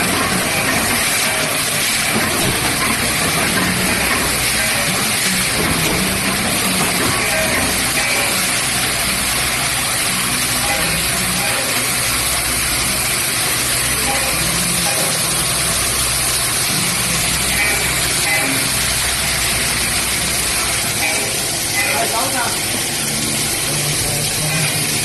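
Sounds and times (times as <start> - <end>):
machine and conveyor belts running: 0.0 - 25.0.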